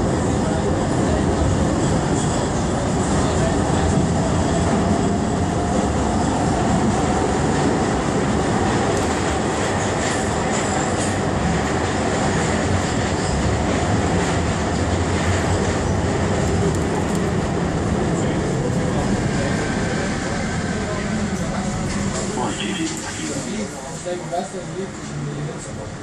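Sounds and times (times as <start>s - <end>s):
metro train rumbling in tunnel: 0.0s - 26.0s.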